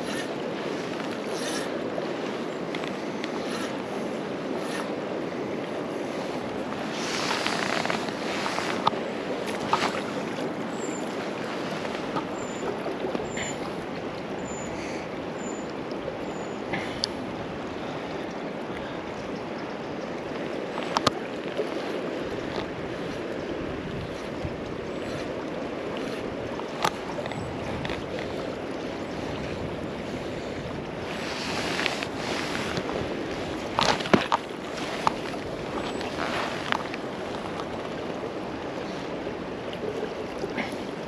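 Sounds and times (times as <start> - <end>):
river rushing: 0.0 - 41.0.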